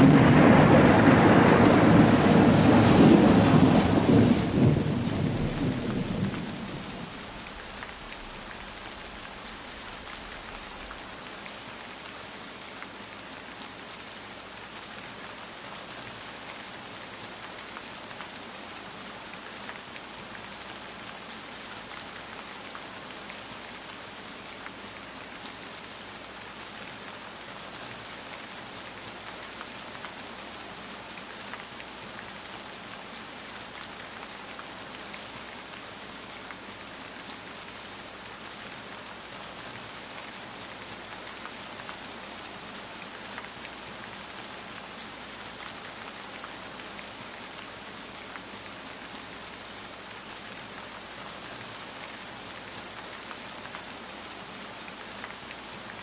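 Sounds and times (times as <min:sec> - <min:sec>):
raindrops ticking on a surface: 0:00.0 - 0:56.0
steady rain falling: 0:00.0 - 0:56.0.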